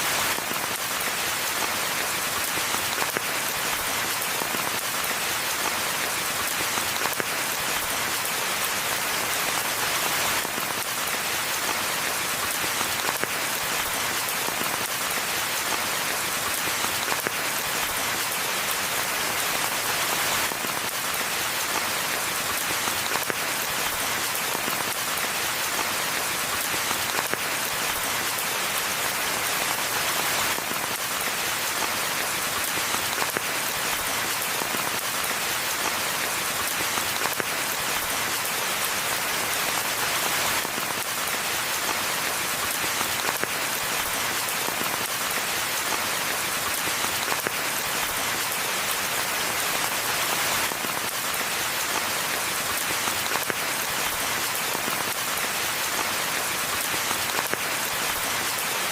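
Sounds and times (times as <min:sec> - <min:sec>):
rain pattering on leaves: 0:00.0 - 0:58.9.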